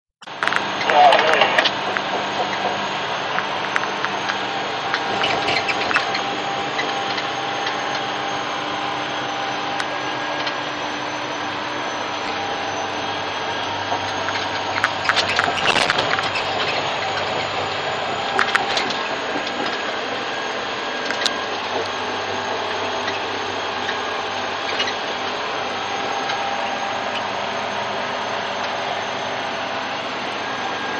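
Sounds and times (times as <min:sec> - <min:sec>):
bulldozer diesel engine drone: 0:00.2 - 0:30.9
high whine: 0:00.2 - 0:30.9.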